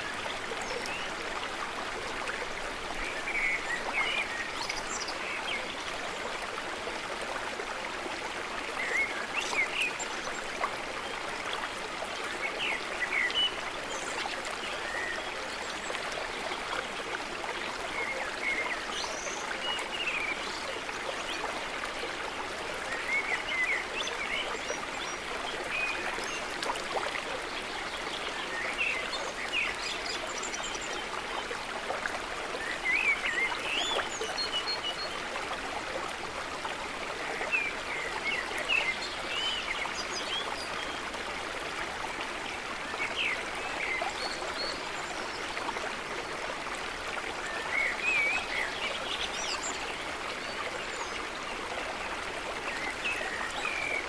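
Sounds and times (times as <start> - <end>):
stream running: 0.0 - 54.0.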